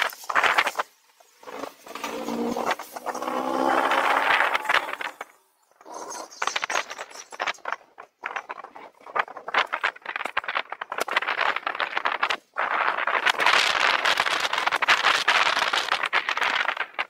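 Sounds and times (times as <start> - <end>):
bicycles clicking and rattling: 0.0 - 17.0
wind noise: 0.0 - 17.0.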